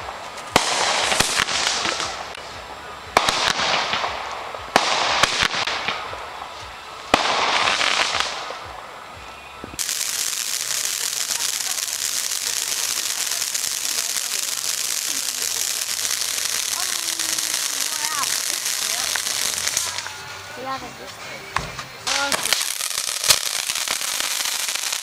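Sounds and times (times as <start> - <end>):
firework bangs with crackle: 0.0 - 9.0, 9.7 - 20.2, 21.6 - 25.0
fountain firework hissing: 0.0 - 20.9, 22.0 - 25.0.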